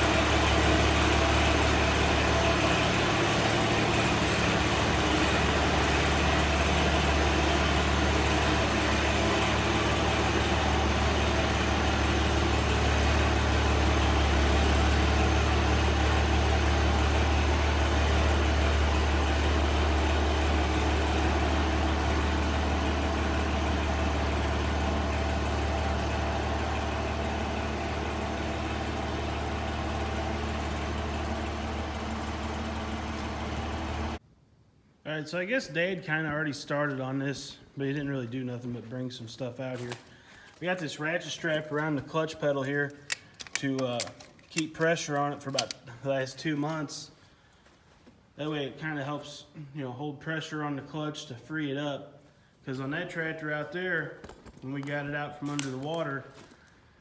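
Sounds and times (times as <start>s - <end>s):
tractor engine running: 0.0s - 34.2s, 36.1s - 47.7s, 52.7s - 57.0s.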